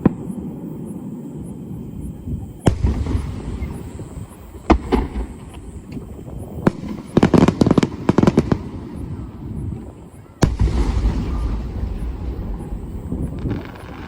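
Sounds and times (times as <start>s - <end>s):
fireworks bangs: 0.0s - 14.0s
rapid fireworks cracks: 2.6s - 14.0s.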